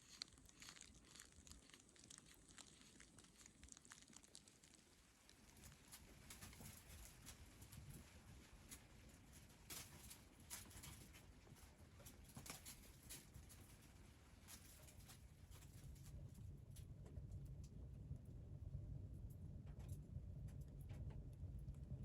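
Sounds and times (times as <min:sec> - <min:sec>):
faint ticks and crackles: 0:00.0 - 0:22.0.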